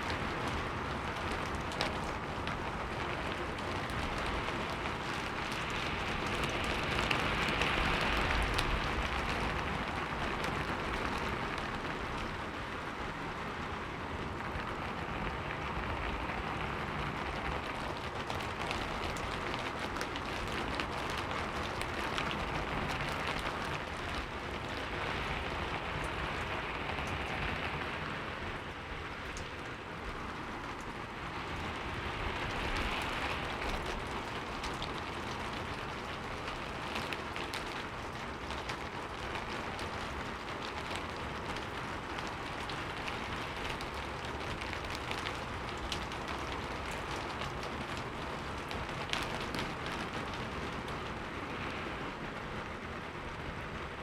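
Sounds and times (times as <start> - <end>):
heavy rain with drop hits: 0.0 - 54.0.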